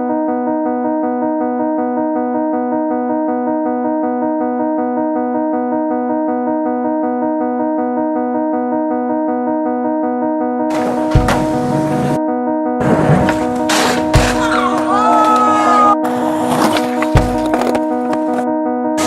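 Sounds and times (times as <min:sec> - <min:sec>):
electric piano music: 0:00.0 - 0:19.0.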